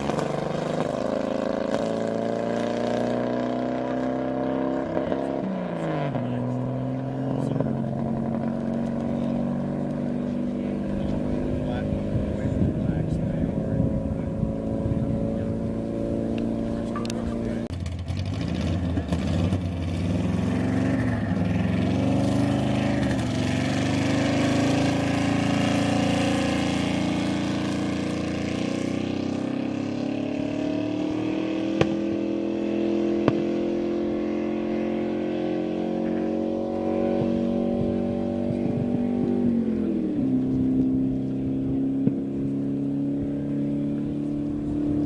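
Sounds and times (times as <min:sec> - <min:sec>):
racing engine running hard: 0:00.0 - 0:45.0.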